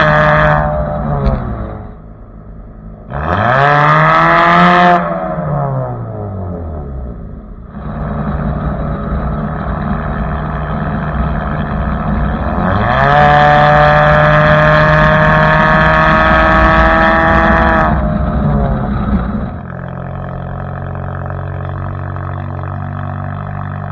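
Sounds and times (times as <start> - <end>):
car engine and exhaust drone: 0.0 - 23.9.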